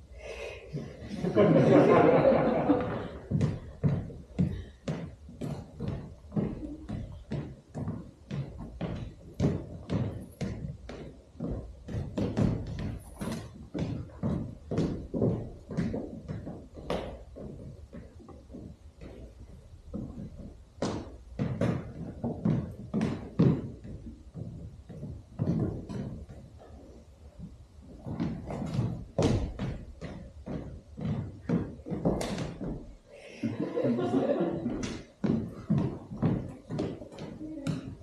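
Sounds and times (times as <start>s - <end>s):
irregular knocks and thuds: 0.7s - 38.0s.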